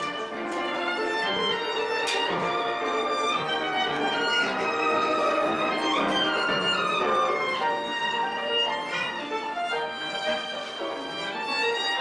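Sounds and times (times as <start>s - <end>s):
piano accompaniment: 0.0s - 12.0s
violin melody: 0.0s - 12.0s.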